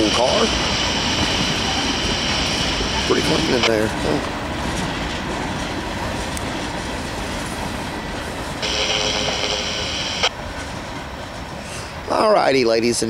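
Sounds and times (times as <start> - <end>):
freight train cars rolling: 0.0 - 13.0.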